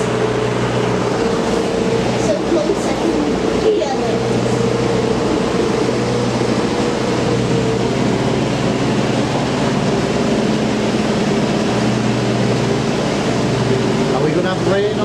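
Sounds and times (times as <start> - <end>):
boat engine humming: 0.0 - 15.0
broad rushing noise: 0.0 - 15.0.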